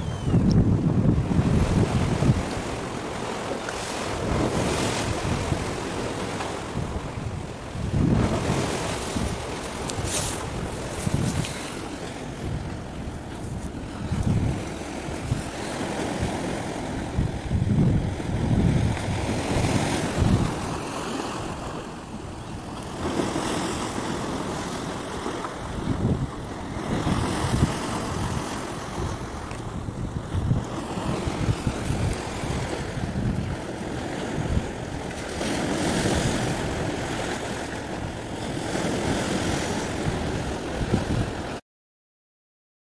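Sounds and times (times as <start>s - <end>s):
wind buffeting microphone: 0.0s - 41.6s.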